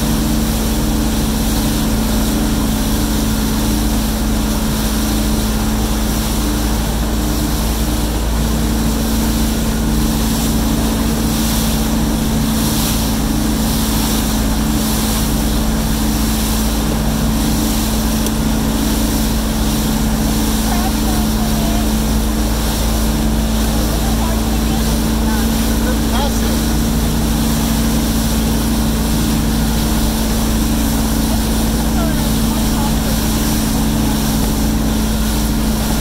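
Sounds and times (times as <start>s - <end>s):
boat engine running: 0.0s - 36.0s
water rushing in wake: 0.0s - 36.0s.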